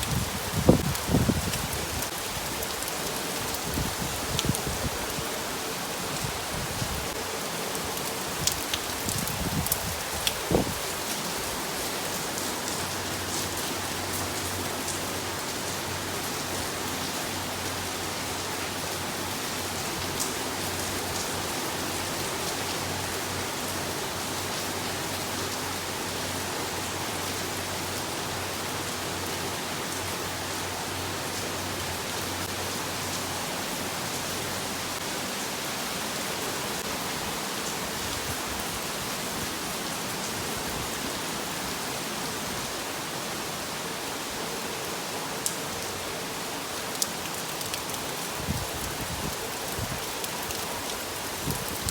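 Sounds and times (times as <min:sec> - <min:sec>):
rain falling: 0:00.0 - 0:51.9.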